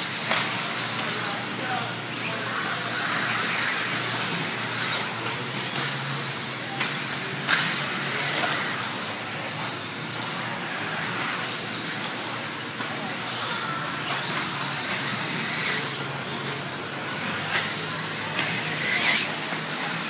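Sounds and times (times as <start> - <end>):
rc cars racing high hiss: 0.0 - 12.6, 13.2 - 20.0.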